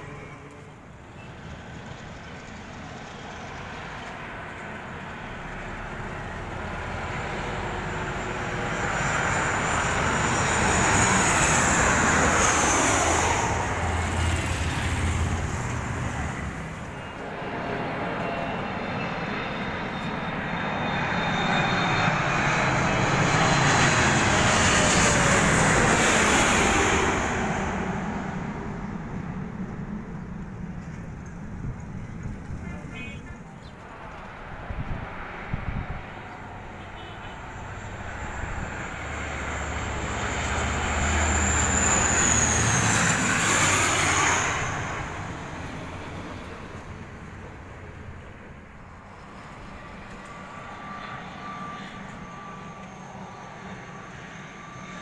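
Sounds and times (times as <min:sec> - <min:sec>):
jet airliner engines roaring overhead: 0:00.0 - 0:55.0.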